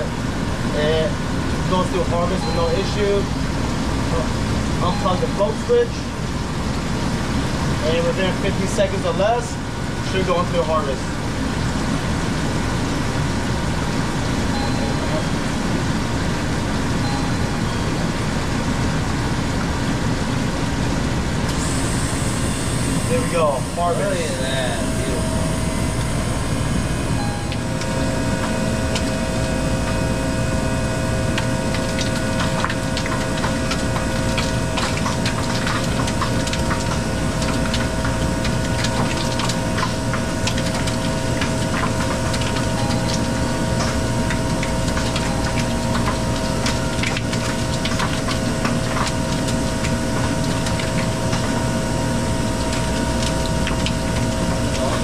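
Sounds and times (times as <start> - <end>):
ice machine humming: 0.0 - 55.0.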